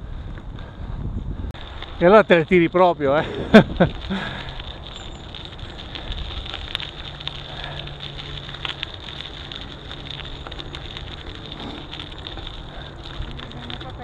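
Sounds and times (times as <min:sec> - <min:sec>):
bicycle rolling rumble: 0:00.0 - 0:14.0
wind buffeting microphone: 0:00.0 - 0:14.0
small crackles and clicks: 0:01.6 - 0:14.0.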